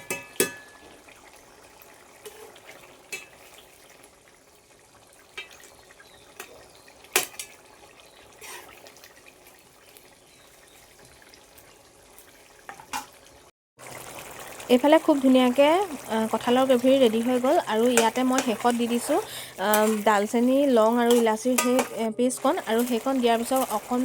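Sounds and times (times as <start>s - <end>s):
curry bubbling in a pan: 0.0s - 24.0s.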